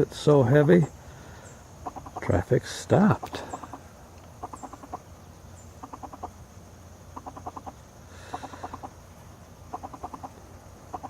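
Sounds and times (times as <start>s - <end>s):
faint steady hum: 0.0s - 11.0s
bird clucking calls: 0.8s - 6.4s, 7.0s - 9.0s, 9.6s - 11.0s.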